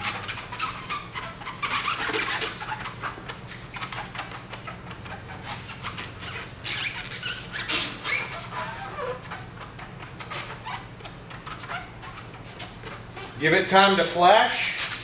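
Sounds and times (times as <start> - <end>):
applicator squeaking on plastic: 0.0 - 13.4.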